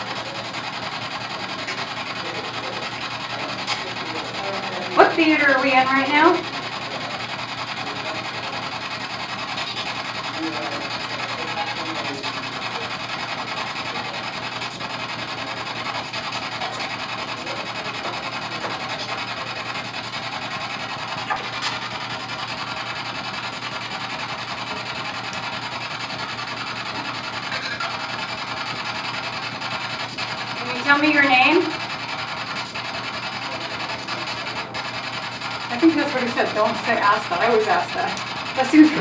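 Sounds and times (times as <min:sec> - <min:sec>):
radio static sweeping: 0:00.0 - 0:39.0.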